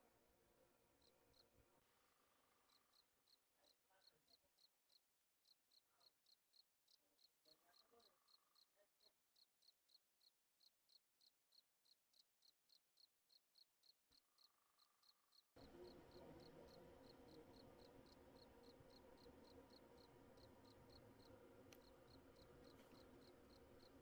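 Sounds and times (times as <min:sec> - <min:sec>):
cricket chirping: 0:01.0 - 0:01.5, 0:02.1 - 0:24.0.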